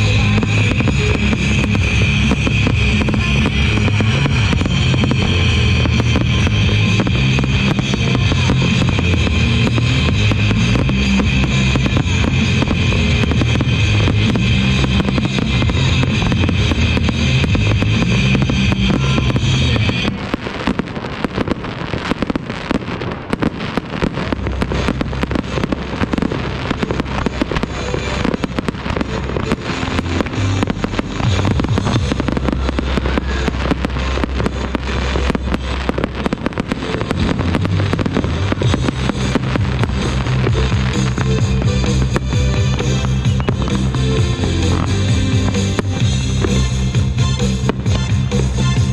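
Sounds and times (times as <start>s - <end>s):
loud music with heavy bass: 0.0s - 20.8s, 24.0s - 48.9s
fireworks crackling bursts: 0.0s - 48.9s.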